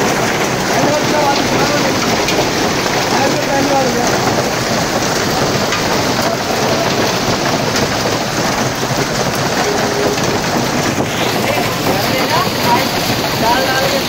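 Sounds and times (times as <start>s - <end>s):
hail and heavy rain: 0.0s - 14.0s.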